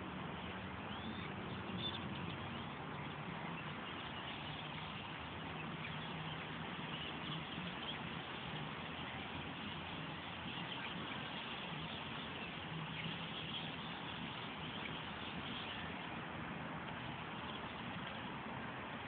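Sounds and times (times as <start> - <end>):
low steady hum: 0.0 - 19.0
flock of blackbirds chattering: 0.2 - 18.6.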